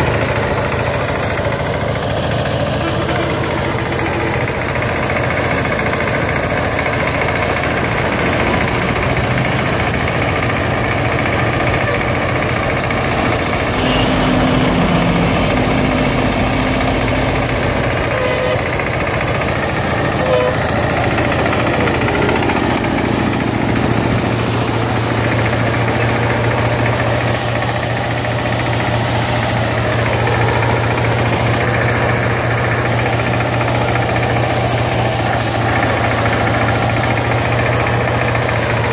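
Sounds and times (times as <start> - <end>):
diesel engine running: 0.0 - 38.9
rice thresher threshing: 0.0 - 38.9.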